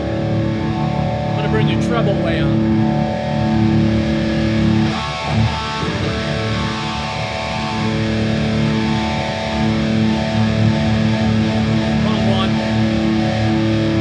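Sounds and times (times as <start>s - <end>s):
electric guitar chords ringing: 0.0s - 14.0s.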